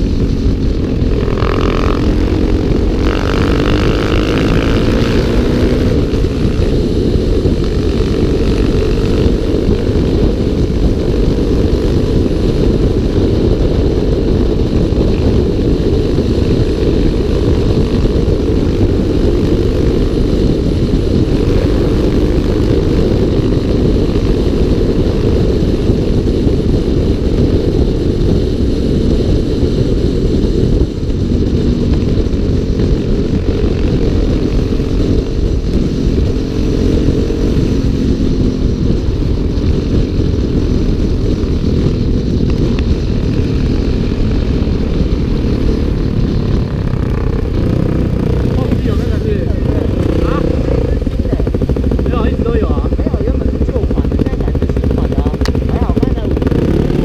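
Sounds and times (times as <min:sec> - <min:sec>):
motorcycle engines at speed: 0:00.0 - 0:57.0
wind rumble on microphone: 0:00.0 - 0:57.0.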